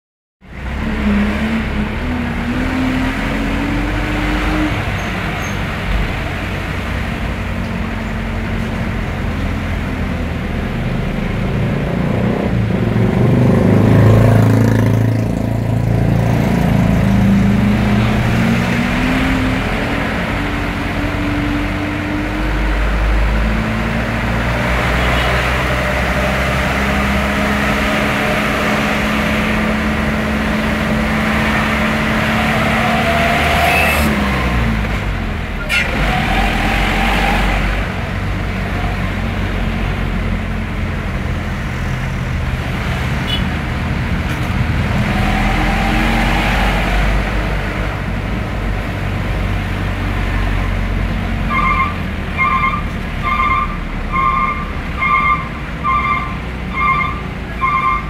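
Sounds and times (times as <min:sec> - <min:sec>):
tyre and road noise: 0:00.4 - 0:58.0
vehicle engine: 0:00.4 - 0:58.0.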